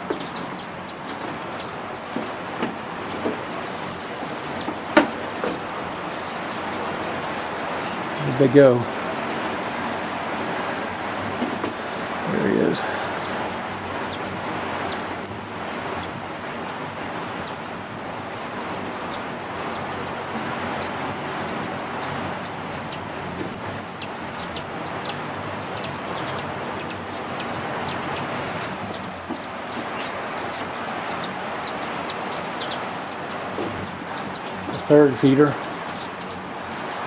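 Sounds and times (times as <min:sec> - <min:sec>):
hummingbird wings buzzing: 0:00.0 - 0:37.0.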